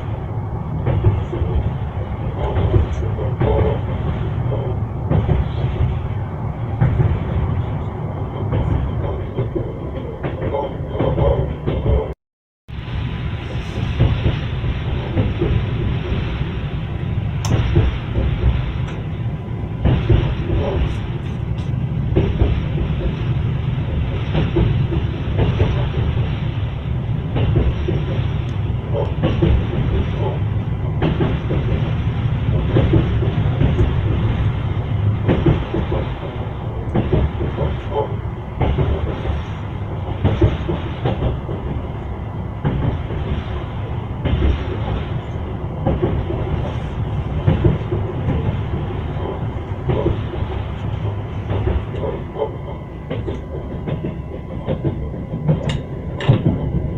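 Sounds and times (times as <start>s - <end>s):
train wheels clickety-clack: 0.0s - 12.2s, 13.4s - 56.9s
rolling rumble: 0.0s - 56.9s.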